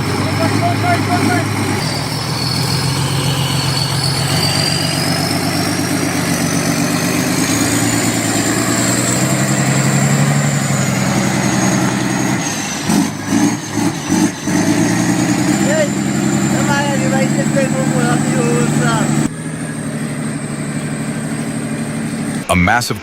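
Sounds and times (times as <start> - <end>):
heavy truck engine under load: 0.0 - 22.6
thin high whine: 0.3 - 22.6.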